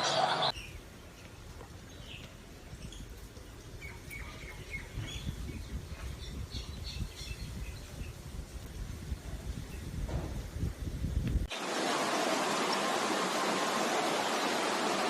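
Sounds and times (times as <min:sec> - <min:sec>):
low wind rumble: 0:00.5 - 0:15.0.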